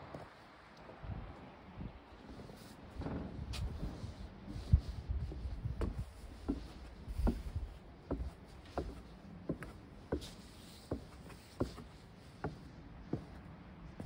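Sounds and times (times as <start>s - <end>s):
footsteps on wooden platform: 2.4s - 14.0s.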